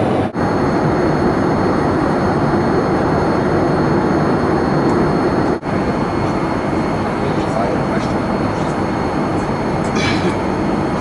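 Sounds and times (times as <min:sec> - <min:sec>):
airplane cabin noise: 0:00.0 - 0:11.0.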